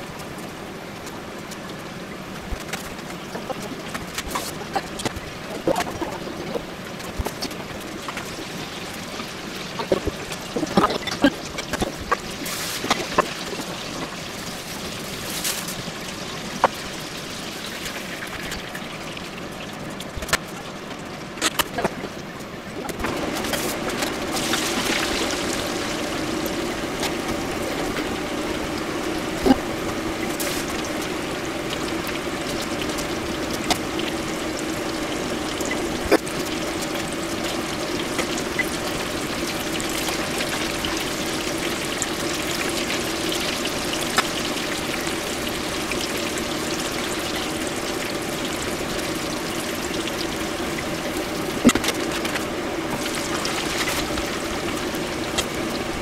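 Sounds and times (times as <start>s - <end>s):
oil sizzling while deep-frying: 0.0s - 56.0s.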